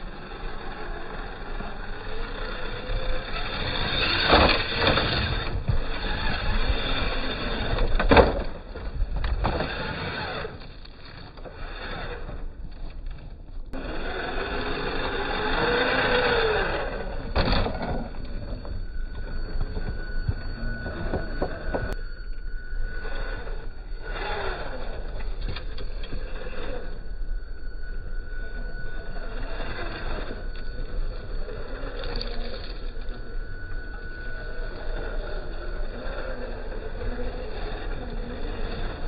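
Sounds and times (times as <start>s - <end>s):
toy truck motor whining: 0.0s - 39.0s.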